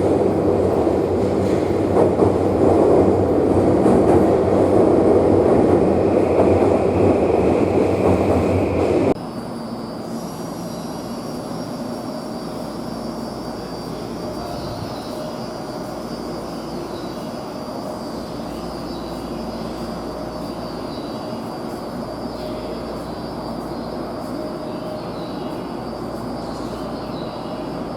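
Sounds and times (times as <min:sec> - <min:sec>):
electric train humming: 0:00.0 - 0:27.9.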